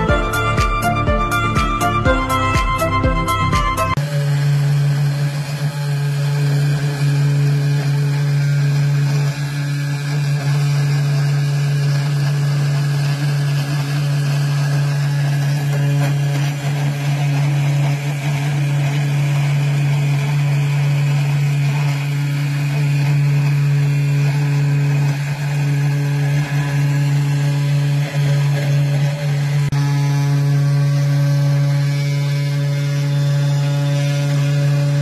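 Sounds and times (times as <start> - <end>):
router motor hum: 0.0 - 35.0.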